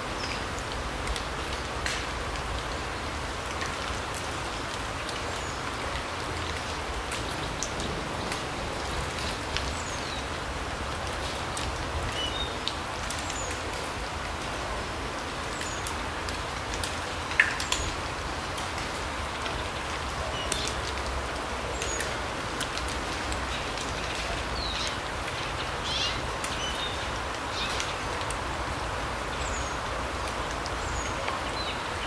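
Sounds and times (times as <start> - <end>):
rain dripping on leaves: 0.0 - 32.0.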